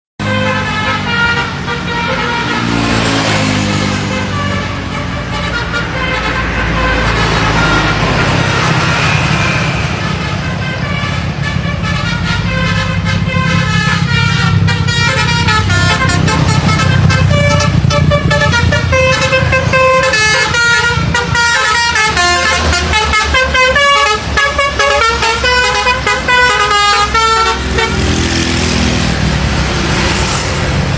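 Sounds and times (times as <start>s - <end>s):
bus horn playing tune: 0.2s - 30.6s
bus engine rumbling: 0.2s - 30.9s.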